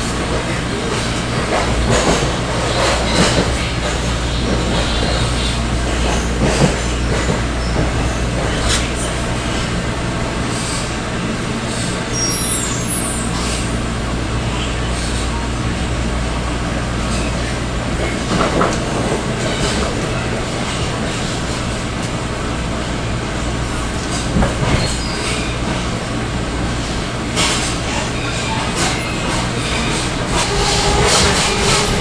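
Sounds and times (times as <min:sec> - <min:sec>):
street noise: 0:00.0 - 0:32.0.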